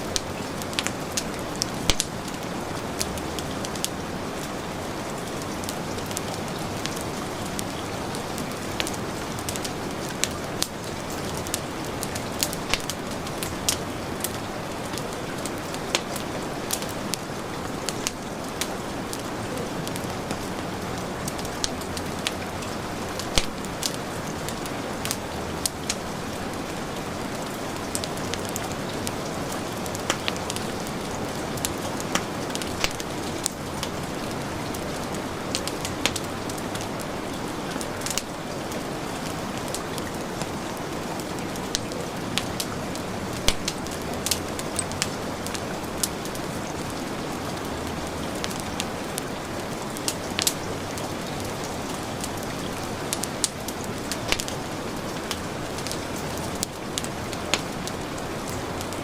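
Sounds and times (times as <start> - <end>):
heavy rain: 0.0 - 59.0
wood fire crackling: 0.0 - 59.0.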